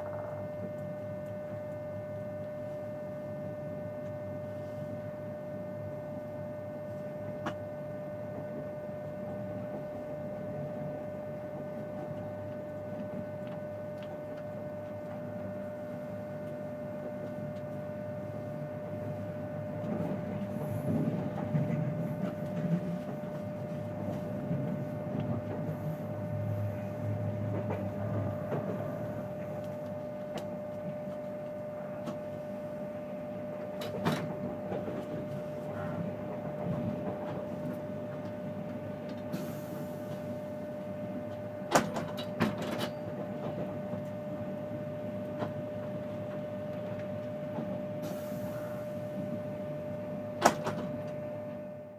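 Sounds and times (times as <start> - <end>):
train hum and rumble: 0.0 - 51.9.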